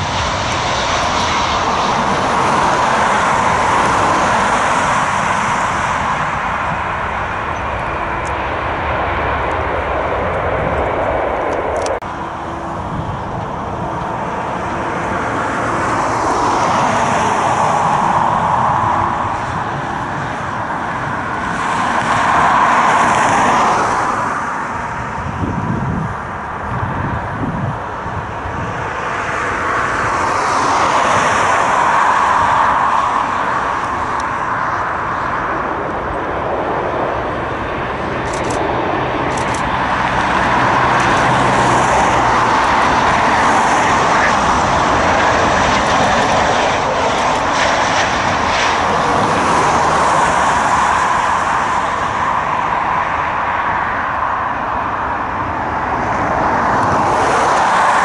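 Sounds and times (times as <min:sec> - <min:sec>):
jet engine roar and whine: 0:00.0 - 0:58.0.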